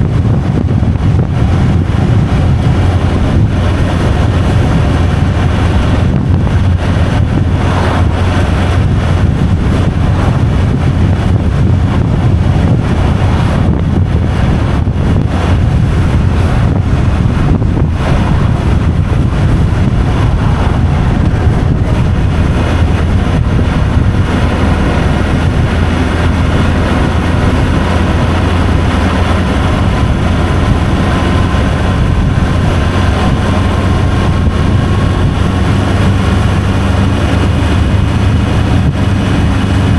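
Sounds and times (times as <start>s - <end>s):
vehicle engine and road noise: 0.0s - 39.9s
wind noise: 0.0s - 39.9s.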